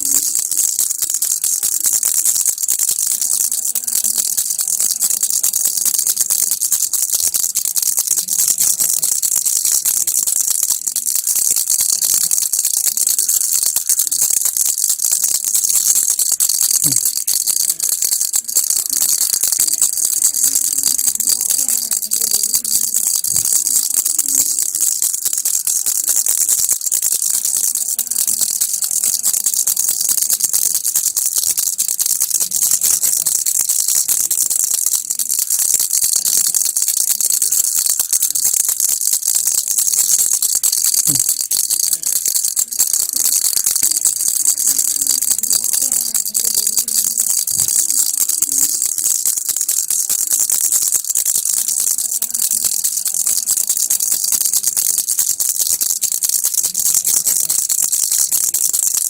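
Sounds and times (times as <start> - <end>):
baby rattle shaken: 0.0 - 59.0.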